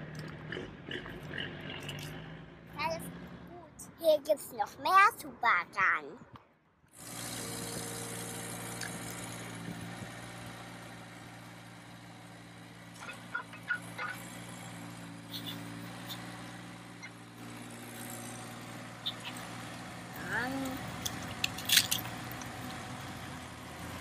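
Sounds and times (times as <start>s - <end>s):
engine-like hum: 0.0s - 24.0s.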